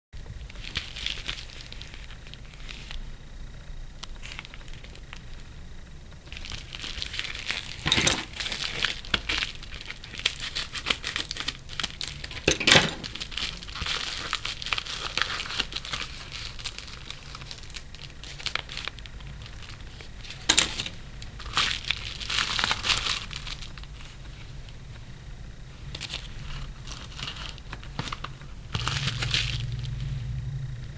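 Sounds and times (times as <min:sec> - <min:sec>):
paper packaging crinkling and tearing: 0:00.2 - 0:03.1, 0:04.0 - 0:05.5, 0:06.2 - 0:24.8, 0:25.8 - 0:30.2.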